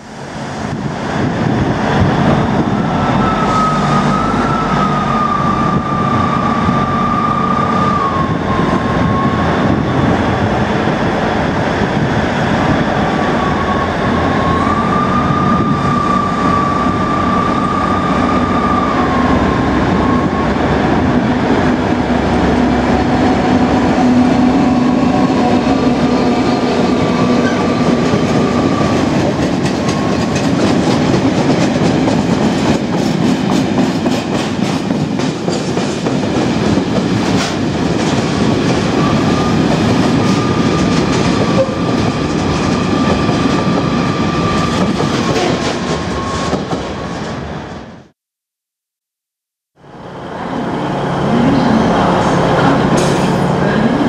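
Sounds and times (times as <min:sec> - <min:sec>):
diesel locomotive engine: 0:00.0 - 0:48.1, 0:49.8 - 0:54.0.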